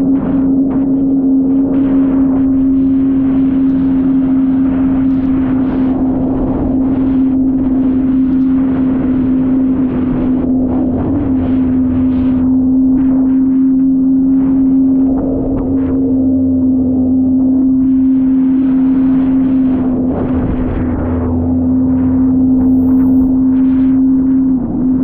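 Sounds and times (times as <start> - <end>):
jet ski engine running: 0.0 - 25.0.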